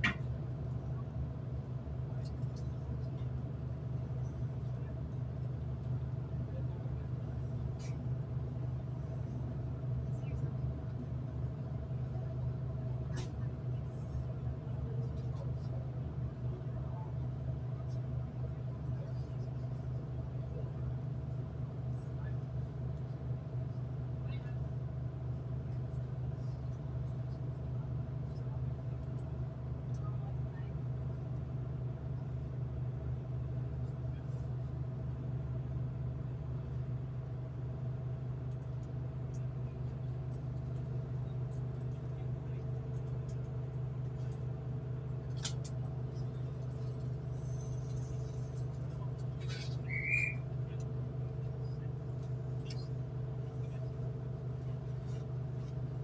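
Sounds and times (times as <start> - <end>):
faint constant whine: 0.0 - 56.0
train carriage low hum: 0.0 - 56.0.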